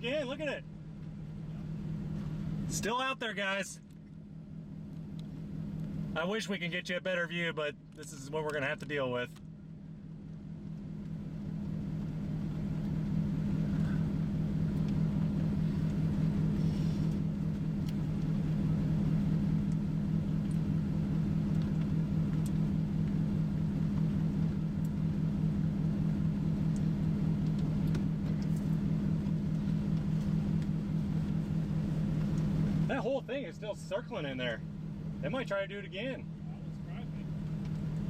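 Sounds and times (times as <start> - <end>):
car engine and road drone: 0.0 - 38.0.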